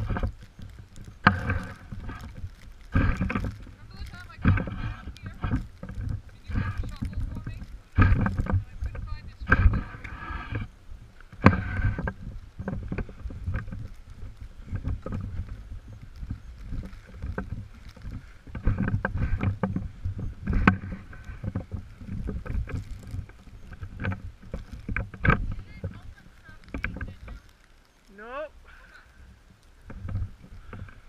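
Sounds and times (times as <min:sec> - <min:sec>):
knocks and crackles: 0:00.0 - 0:31.0
wind buffeting the microphone: 0:00.0 - 0:31.0.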